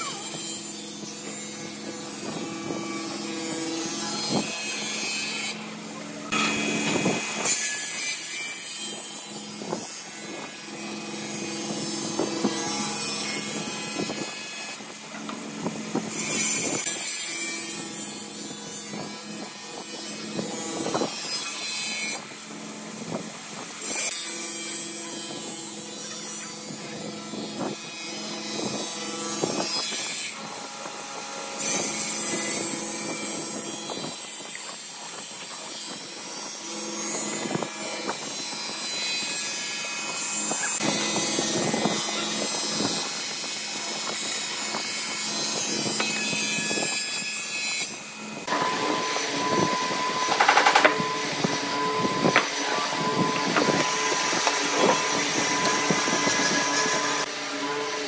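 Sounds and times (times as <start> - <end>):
table saw cutting wood: 0.0 - 58.0.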